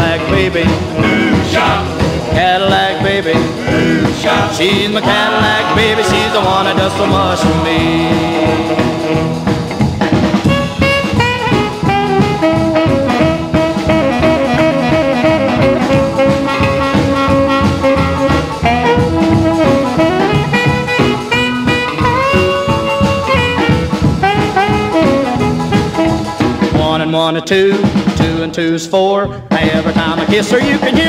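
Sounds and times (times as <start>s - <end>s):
upbeat rock and roll music: 0.0s - 31.0s.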